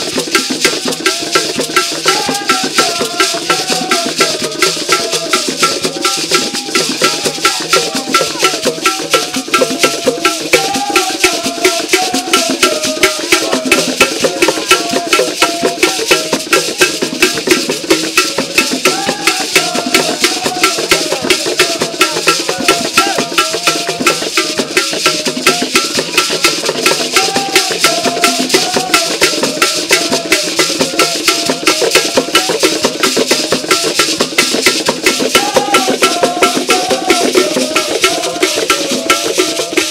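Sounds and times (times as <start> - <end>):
hand drums playing fast rhythm: 0.0 - 39.9
shakers rattling: 0.0 - 39.9.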